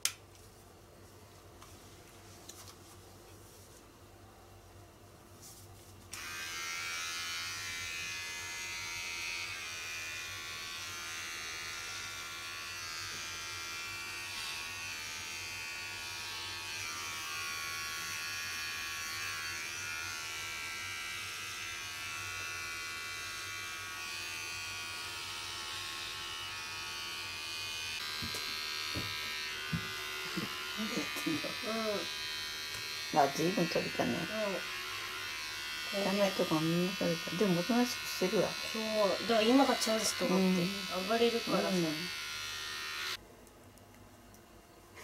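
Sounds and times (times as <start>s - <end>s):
electric hair clippers buzzing: 6.1s - 43.2s.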